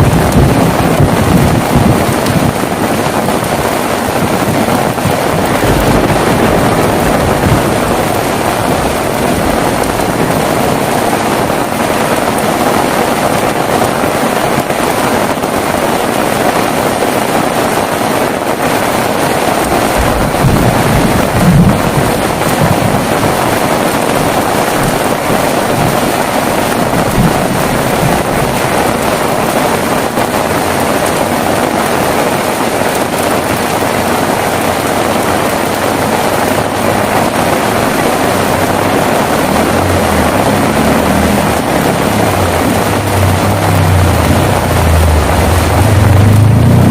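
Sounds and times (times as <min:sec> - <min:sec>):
heavy rain falling: 0:00.0 - 0:46.9
thunder rumbling: 0:00.0 - 0:46.9.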